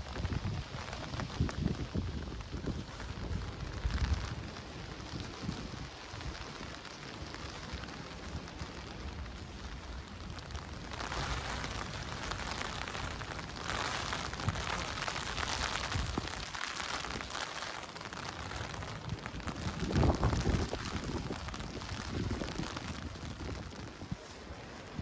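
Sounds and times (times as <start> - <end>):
rain patter and hiss: 0.0 - 25.0
wind rumbling on microphone: 0.0 - 25.0.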